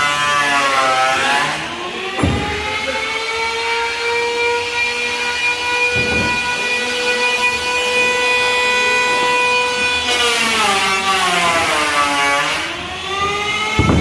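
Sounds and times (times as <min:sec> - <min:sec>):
power tool whining: 0:00.0 - 0:14.0
tool cutting into wood: 0:00.0 - 0:14.0.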